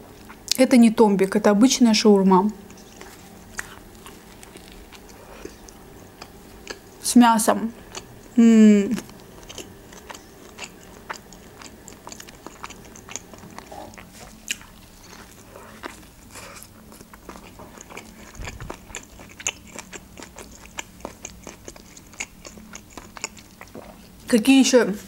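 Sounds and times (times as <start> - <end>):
biting and chewing food: 2.6 - 7.0, 7.7 - 8.4, 9.0 - 24.3.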